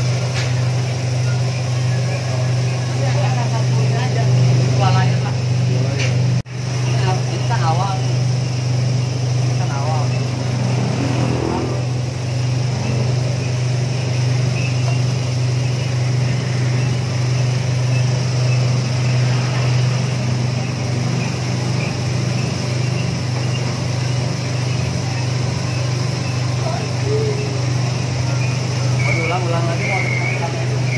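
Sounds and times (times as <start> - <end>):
vibrating sieve humming and buzzing: 0.0 - 30.9.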